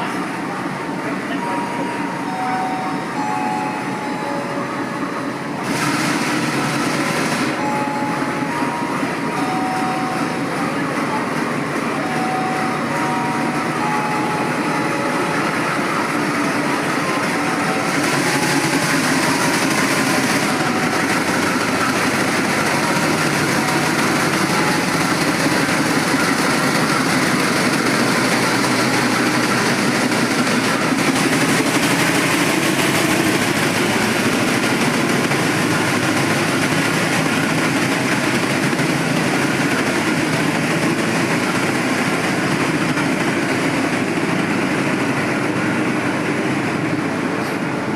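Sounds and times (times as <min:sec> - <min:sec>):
passenger train running noise: 0:00.0 - 0:47.9.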